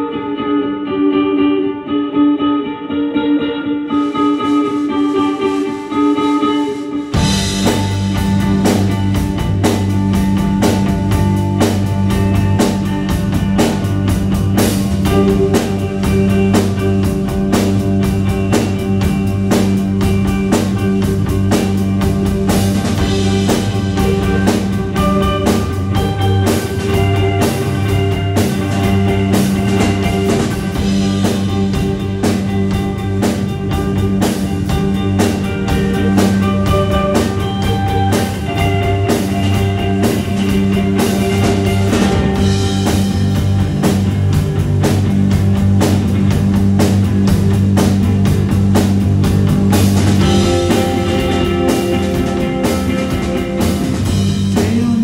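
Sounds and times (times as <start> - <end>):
bass guitar: 0.0 - 55.0
electric guitars ringing: 0.0 - 55.0
drum kit beat: 4.0 - 55.0.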